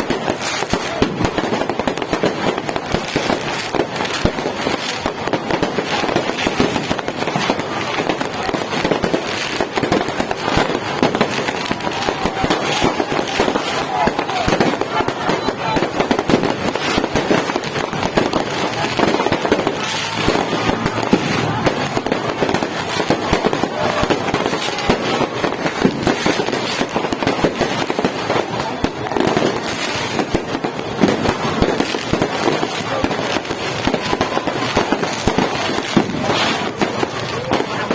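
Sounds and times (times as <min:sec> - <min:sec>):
firecrackers cracking and popping: 0:00.0 - 0:37.9.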